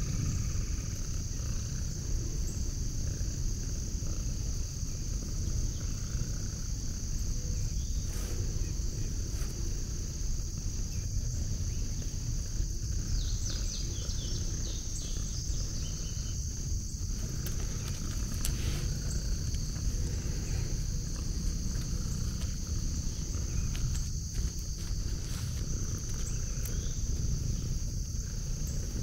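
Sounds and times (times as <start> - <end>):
insect chorus: 0.0 - 29.0
low constant rumble: 0.0 - 29.0.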